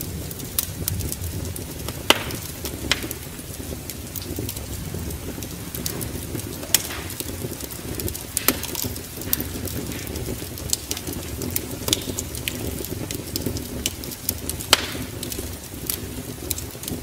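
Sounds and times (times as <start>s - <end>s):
steady low rumble: 0.0s - 14.3s
wood fire crackling: 0.0s - 17.0s.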